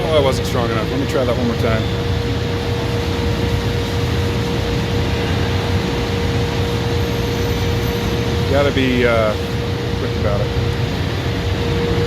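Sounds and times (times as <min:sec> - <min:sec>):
machine humming: 0:00.0 - 0:12.0
mid-pitched whine: 0:00.0 - 0:12.0.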